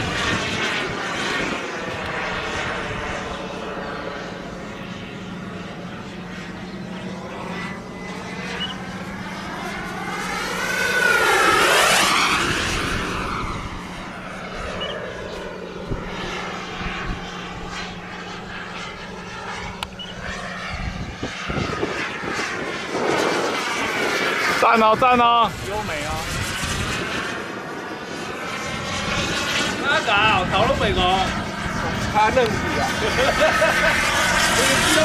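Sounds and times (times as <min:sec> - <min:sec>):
model jet turbine flying past: 0:00.0 - 0:35.0.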